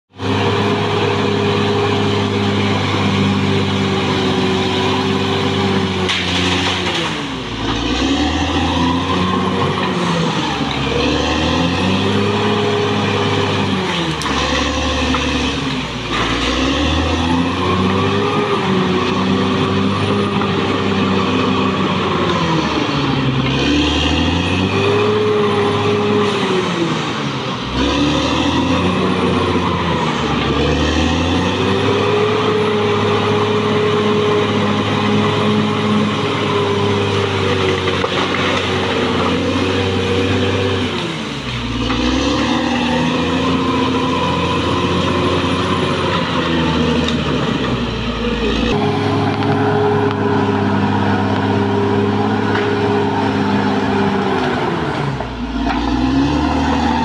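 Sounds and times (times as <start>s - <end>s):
bulldozer diesel engine running hard: 0.0s - 57.0s.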